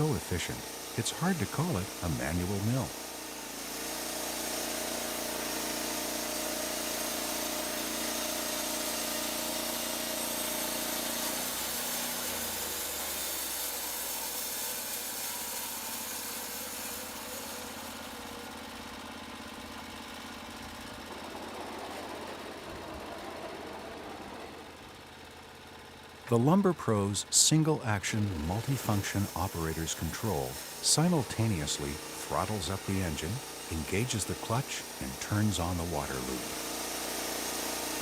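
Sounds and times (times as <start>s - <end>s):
sawmill engine running: 0.0s - 38.0s.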